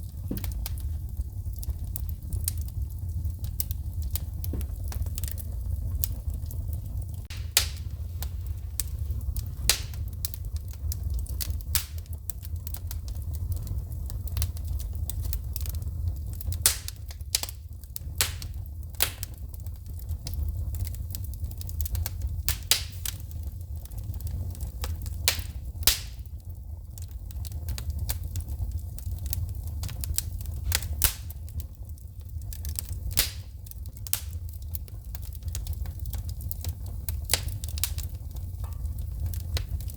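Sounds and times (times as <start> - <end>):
sharp pops of sparks: 0.0 - 6.6, 7.2 - 15.8, 16.4 - 19.6, 21.6 - 26.4, 27.4 - 39.9
low rumble of flames: 0.0 - 39.9
wood fire crackling: 0.0 - 39.9.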